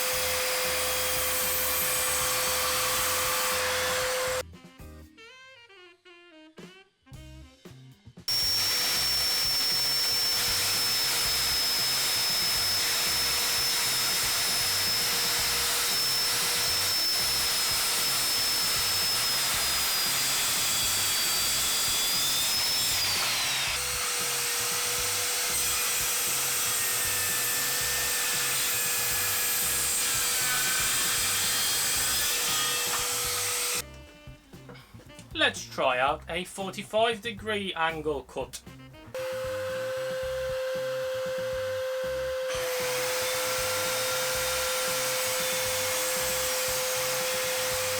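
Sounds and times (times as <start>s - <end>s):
circular saw cutting wood: 0.0s - 4.4s, 8.3s - 34.0s, 39.1s - 47.9s.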